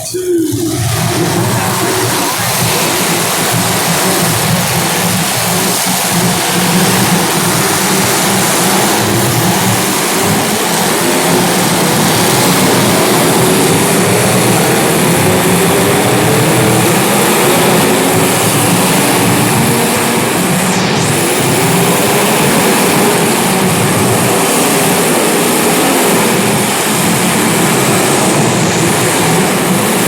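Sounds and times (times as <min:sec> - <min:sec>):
small racing engines revving: 0:00.0 - 0:30.0.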